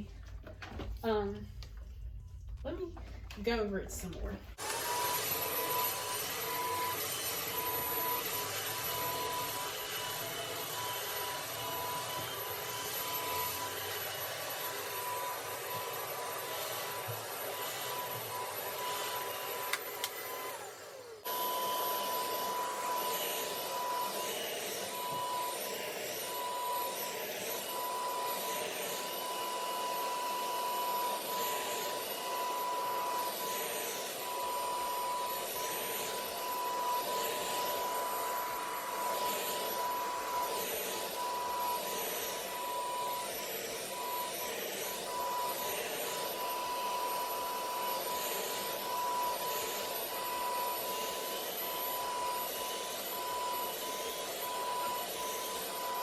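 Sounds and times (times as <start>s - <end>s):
carpet cleaner motor drone: 4.6s - 56.0s.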